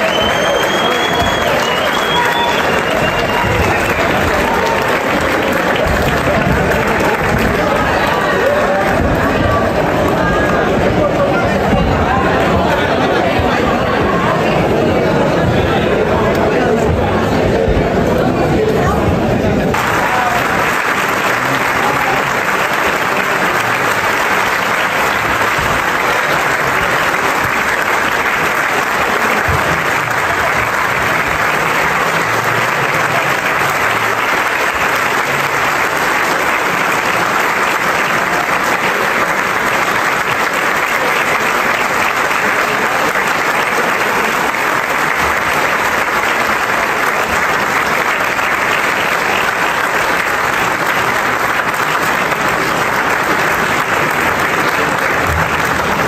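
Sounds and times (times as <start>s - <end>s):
audience applause: 0.0s - 56.0s.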